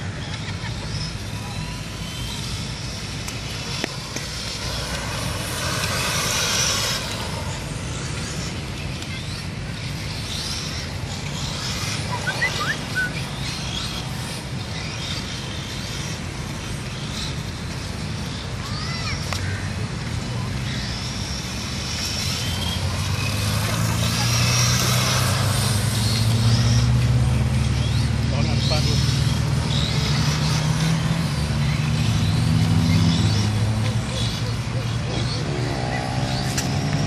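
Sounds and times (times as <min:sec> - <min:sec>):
rc car motors whining: 0:00.0 - 0:37.0.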